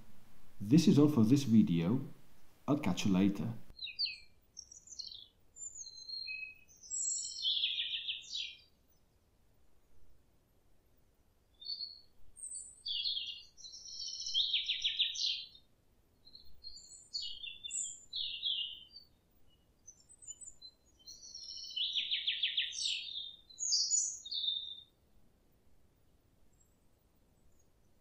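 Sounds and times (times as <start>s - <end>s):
songbird singing: 0.0s - 9.2s, 11.4s - 25.0s.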